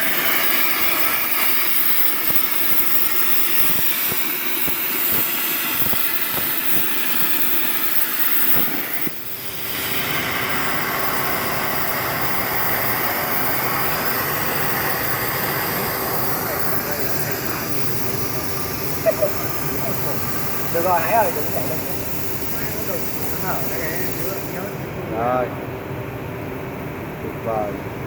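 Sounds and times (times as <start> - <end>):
crackling: 0.0 - 24.9
plasma cutter hissing: 0.0 - 24.9.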